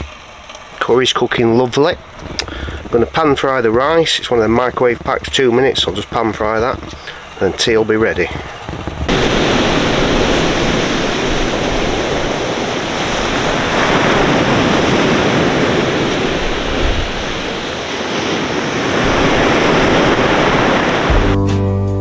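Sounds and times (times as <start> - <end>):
surf breaking on pebble beach: 0.0 - 21.4.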